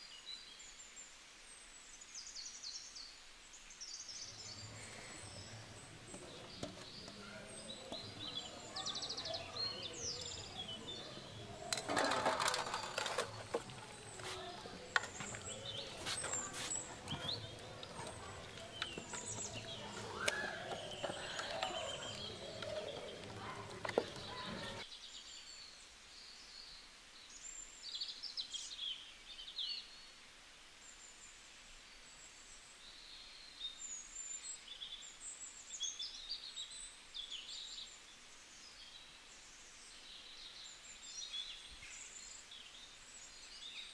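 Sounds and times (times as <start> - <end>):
small birds chirping: 0.0 - 30.2, 30.8 - 43.9
low background noise: 0.0 - 43.9.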